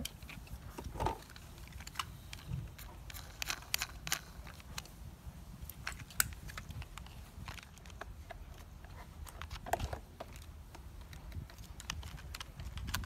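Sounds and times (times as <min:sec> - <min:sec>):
plastic toy parts clicking: 0:01.2 - 0:04.9, 0:05.7 - 0:13.0.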